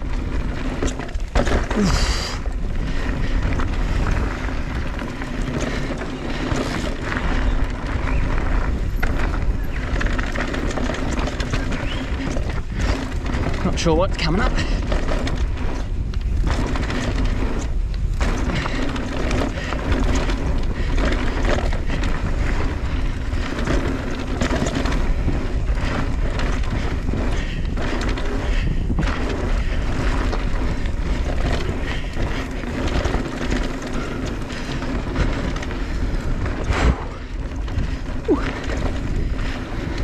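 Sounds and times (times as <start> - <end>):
bike rattling and knocking: 0.0 - 40.0
tyres rolling over dirt: 0.0 - 40.0
wind buffeting microphone: 0.0 - 40.0.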